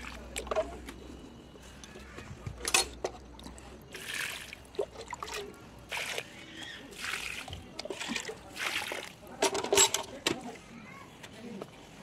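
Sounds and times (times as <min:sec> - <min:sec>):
water splashing and trickling: 0:00.0 - 0:10.5.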